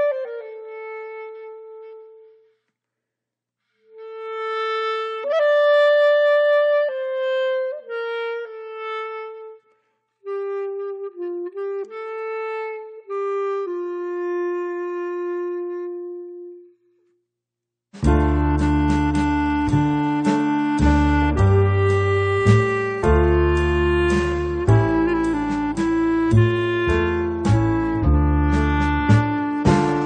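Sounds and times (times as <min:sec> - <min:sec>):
slow solo woodwind melody: 0:00.0 - 0:02.6, 0:03.8 - 0:17.0, 0:18.0 - 0:30.0.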